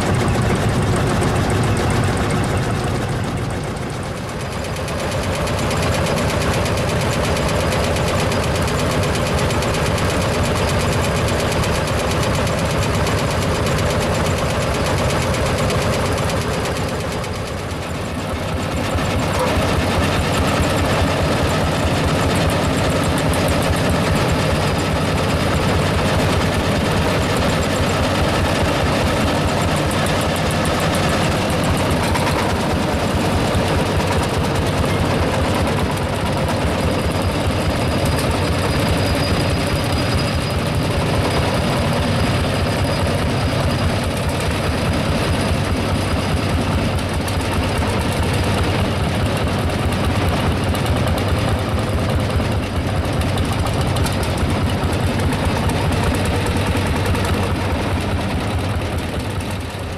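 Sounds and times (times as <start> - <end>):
tractor engines chugging: 0.0 - 59.9.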